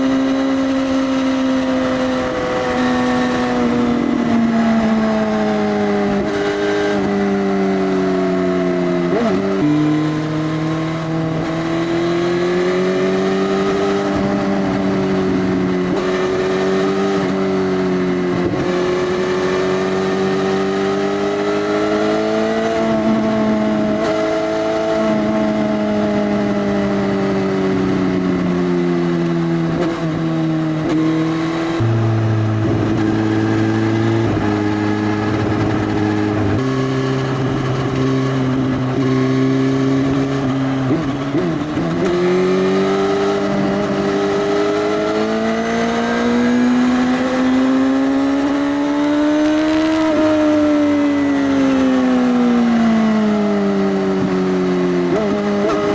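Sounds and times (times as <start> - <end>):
motorcycle engine under way: 0.0 - 55.9.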